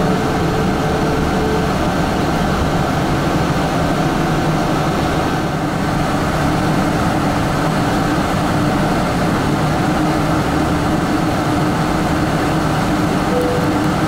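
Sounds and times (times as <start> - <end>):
airliner cabin engine drone: 0.0 - 14.0.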